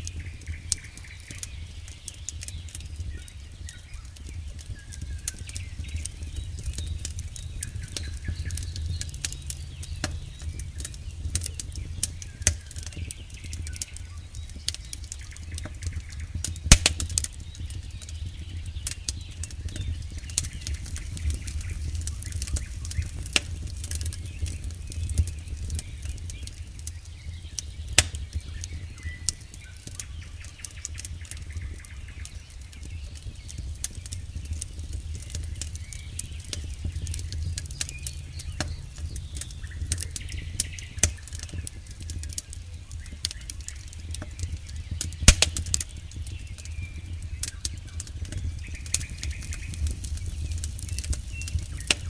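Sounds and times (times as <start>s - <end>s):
campfire crackling and popping: 0.0s - 52.0s
low rumble of flames: 0.0s - 52.0s.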